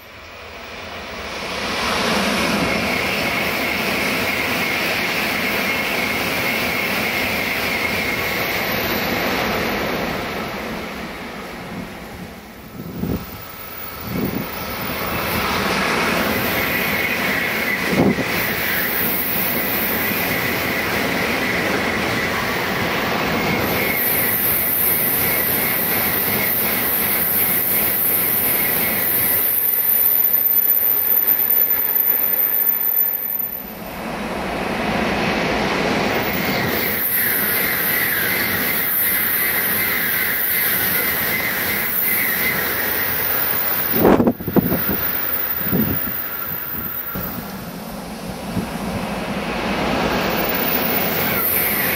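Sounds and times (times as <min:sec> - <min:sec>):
train passing at speed: 0:00.0 - 0:51.9.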